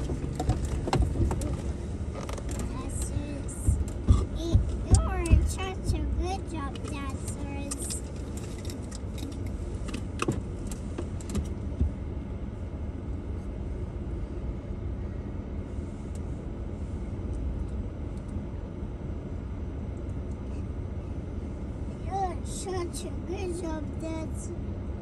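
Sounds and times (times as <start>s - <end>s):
vehicle driving off-road: 0.0s - 25.0s.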